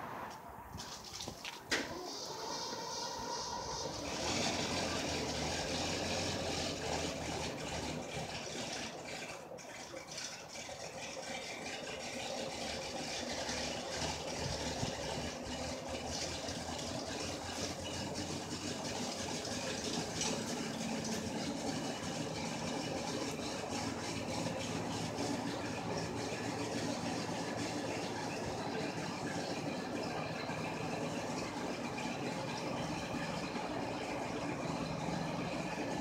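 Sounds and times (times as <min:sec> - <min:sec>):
locomotive hissing and humming: 0:00.0 - 0:10.2, 0:11.1 - 0:36.0.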